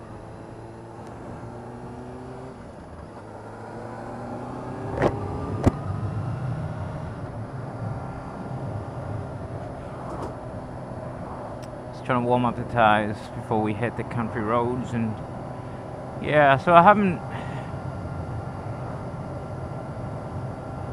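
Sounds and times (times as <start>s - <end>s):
motorcycle engine accelerating: 0.0s - 20.9s.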